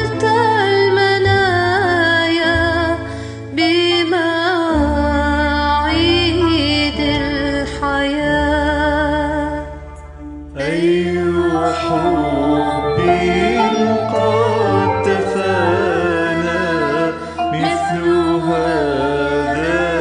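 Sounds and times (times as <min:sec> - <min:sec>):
slow hymn music: 0:00.0 - 0:20.0.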